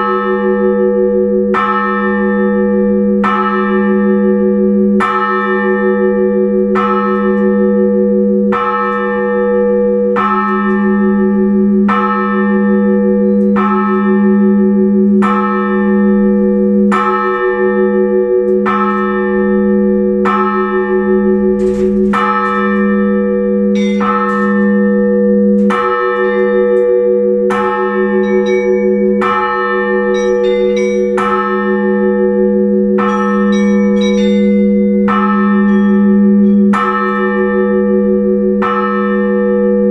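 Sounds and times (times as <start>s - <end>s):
church bell strokes: 0.0s - 39.9s
large bell hum: 0.0s - 39.9s
small high bells: 6.8s - 39.9s.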